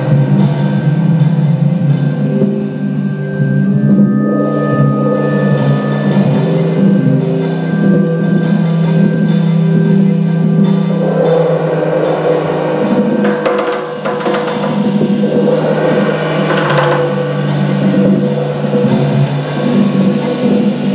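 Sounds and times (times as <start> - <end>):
drums and cymbals: 0.0 - 20.9
organ chords: 0.0 - 20.9.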